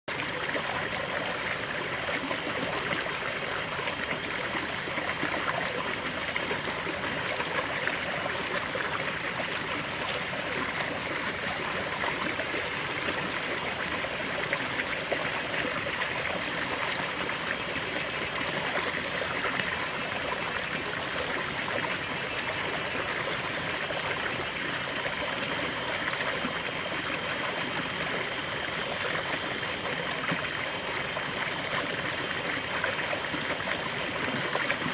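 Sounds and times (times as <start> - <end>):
small waterfall and stream flowing: 0.1 - 34.9.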